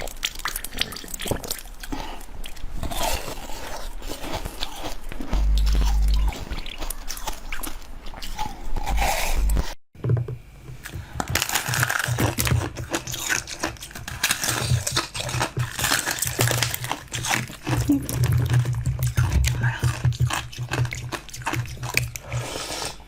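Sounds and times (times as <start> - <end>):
person chewing crunchy food: 0.0 - 9.8, 10.8 - 23.0.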